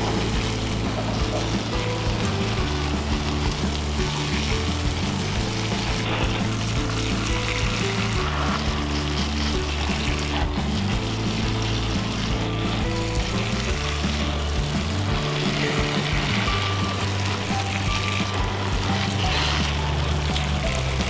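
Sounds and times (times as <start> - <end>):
background music: 0.0 - 21.0
water sprinkling hiss: 0.0 - 21.0.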